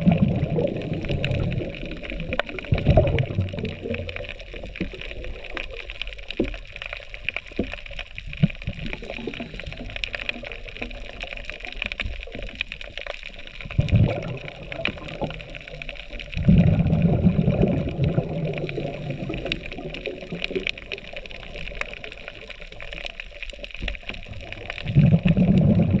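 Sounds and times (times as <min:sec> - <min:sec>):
diver's exhaled bubbles: 0:00.0 - 0:12.5, 0:13.6 - 0:22.7, 0:24.1 - 0:26.0
underwater crackle of clicks: 0:00.0 - 0:26.0.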